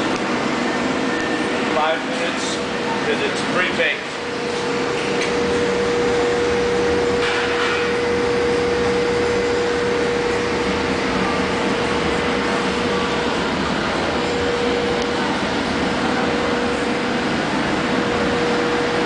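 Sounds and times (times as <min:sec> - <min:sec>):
blower fan rushing: 0:00.0 - 0:19.0
mid-pitched hum: 0:00.0 - 0:19.0.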